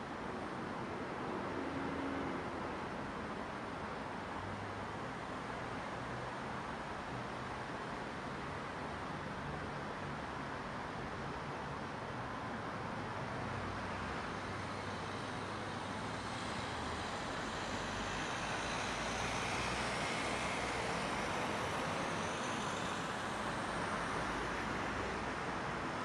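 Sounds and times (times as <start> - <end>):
distant road traffic: 0.0 - 26.0.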